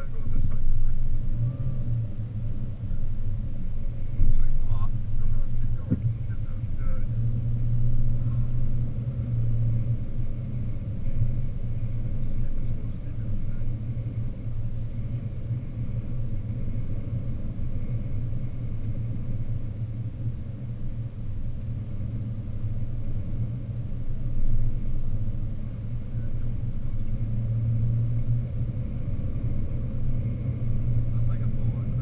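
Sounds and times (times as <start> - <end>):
vehicle rumbling on highway: 0.0 - 32.0.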